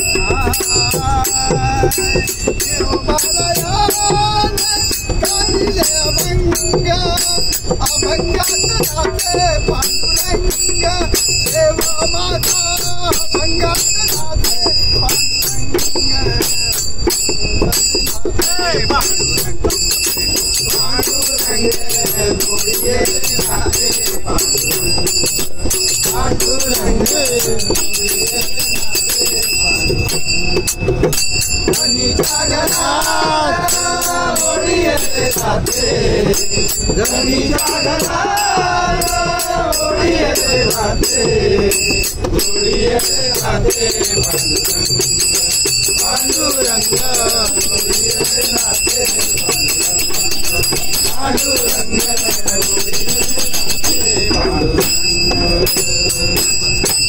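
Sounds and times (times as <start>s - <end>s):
men singing devotional song: 0.0s - 57.0s
small hand cymbals ringing: 0.0s - 57.0s.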